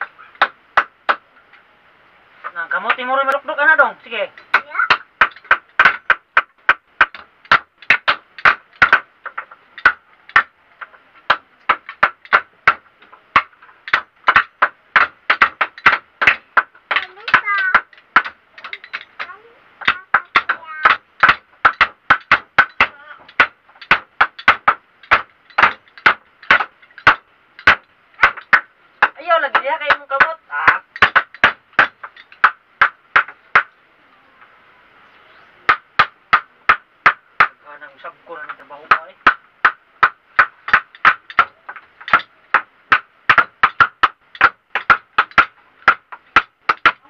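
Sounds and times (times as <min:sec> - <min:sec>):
ringing blows on a bed frame: 0:02.8 - 0:33.8, 0:35.7 - 0:47.0.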